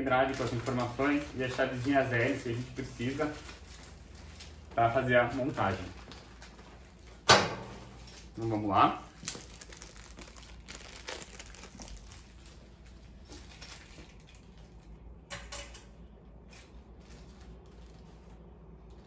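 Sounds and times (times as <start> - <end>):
plastic bag crinkling: 0.0 - 7.2, 8.0 - 15.1, 16.4 - 19.0.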